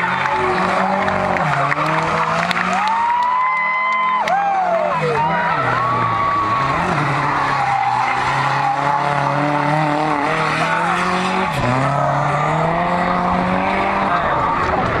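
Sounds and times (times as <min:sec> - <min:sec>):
car engines at high revs: 0:00.0 - 0:15.0.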